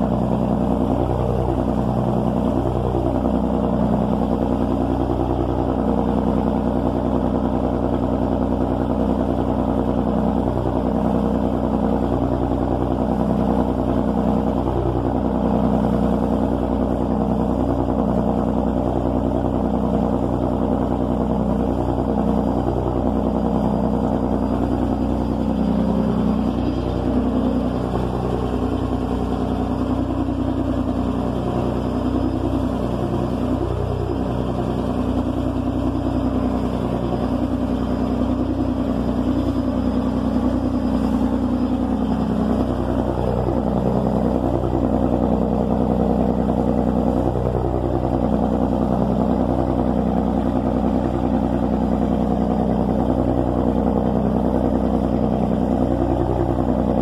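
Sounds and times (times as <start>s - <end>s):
boat engine droning: 0.0s - 57.0s
water splashing against hull: 0.0s - 57.0s.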